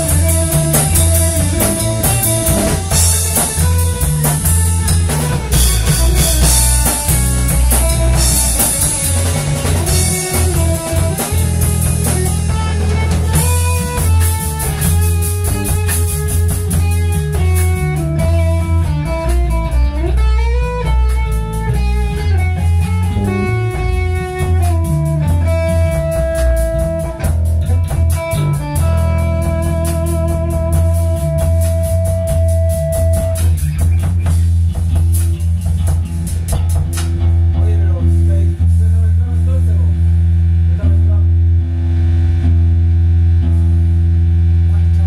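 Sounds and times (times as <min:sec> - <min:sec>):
bass guitar: 0:00.0 - 0:45.0
drum kit: 0:00.0 - 0:45.0
electric guitar lead line: 0:00.0 - 0:45.0.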